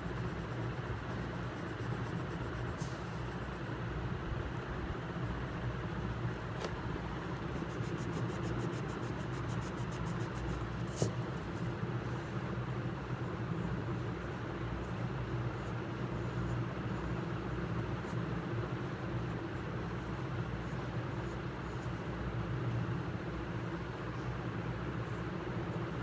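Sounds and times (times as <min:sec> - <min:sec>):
pencil scratching on paper: 0:00.0 - 0:04.1, 0:05.0 - 0:22.2
low background hum: 0:00.0 - 0:26.0.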